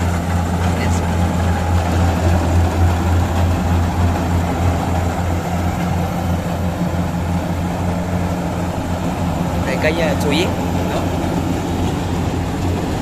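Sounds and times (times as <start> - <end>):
combine harvester diesel engine: 0.0 - 13.0.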